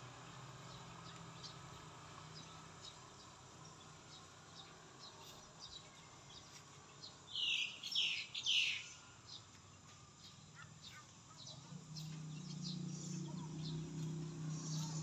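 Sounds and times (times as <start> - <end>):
birds chirping: 0.4 - 15.0.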